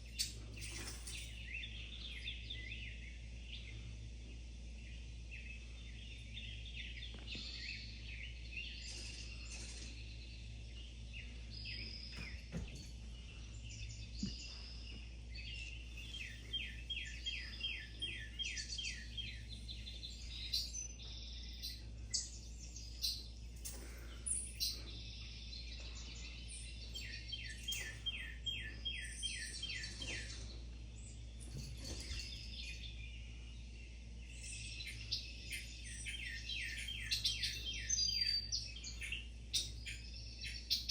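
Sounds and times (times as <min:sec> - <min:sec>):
songbirds chirping and singing: 0:00.0 - 0:40.9
steady low hum: 0:00.0 - 0:40.9.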